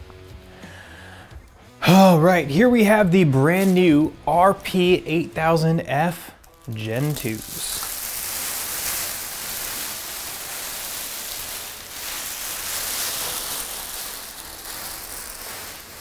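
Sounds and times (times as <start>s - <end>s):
plastic bags crinkling: 2.6s - 16.0s.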